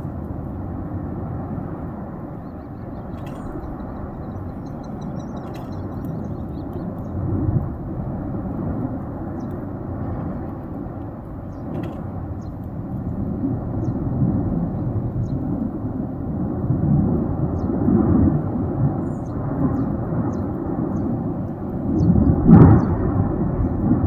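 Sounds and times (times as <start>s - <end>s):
volcano rumbling: 0.0s - 24.0s.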